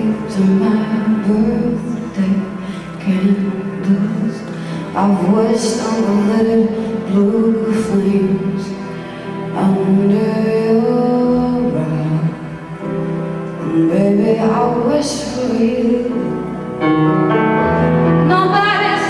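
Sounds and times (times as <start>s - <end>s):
woman singing: 0.0s - 8.9s, 9.5s - 12.5s, 13.6s - 16.6s, 18.2s - 19.0s
grand piano chords: 0.0s - 19.0s.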